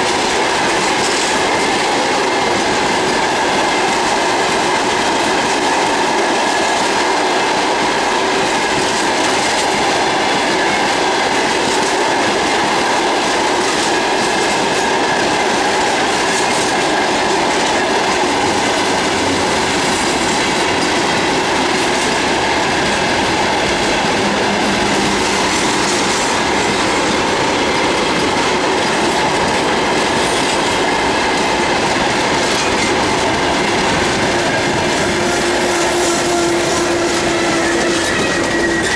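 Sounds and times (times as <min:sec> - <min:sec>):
train wheels on rail: 0:00.0 - 0:38.9.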